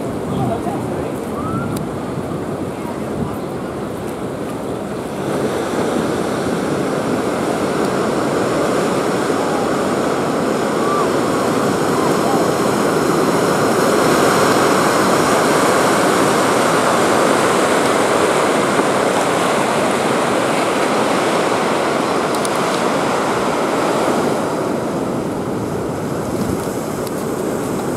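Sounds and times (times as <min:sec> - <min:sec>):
breaking waves: 0:00.0 - 0:27.9.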